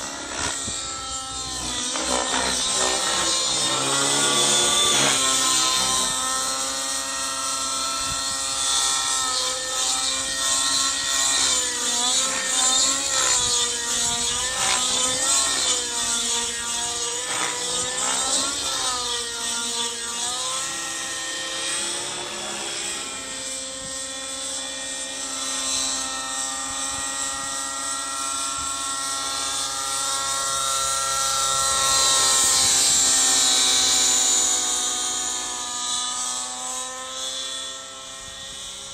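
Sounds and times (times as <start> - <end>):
model helicopter whine: 0.0 - 38.9.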